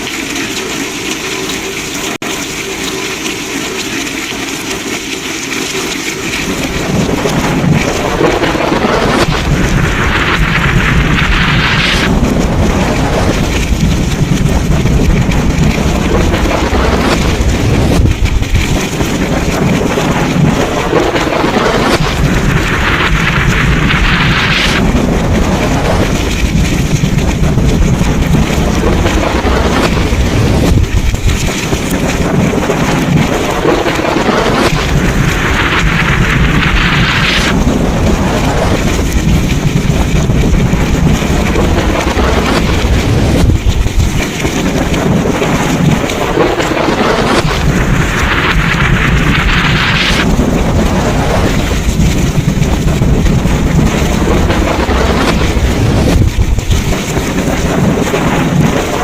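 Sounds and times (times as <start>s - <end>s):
heavy rain: 0.0s - 59.0s
wind: 0.0s - 59.0s
thunder rumbling: 5.6s - 59.0s.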